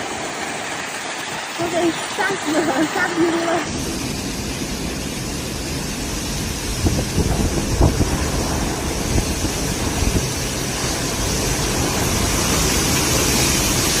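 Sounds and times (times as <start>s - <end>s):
heavy rain: 0.0s - 14.0s
wind: 0.0s - 14.0s.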